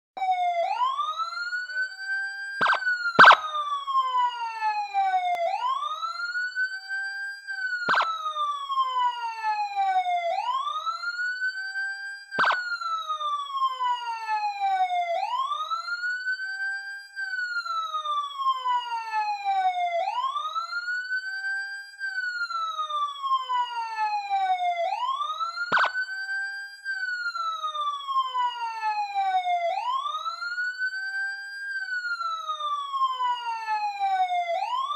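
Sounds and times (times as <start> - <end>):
police siren wailing: 0.2 - 34.9.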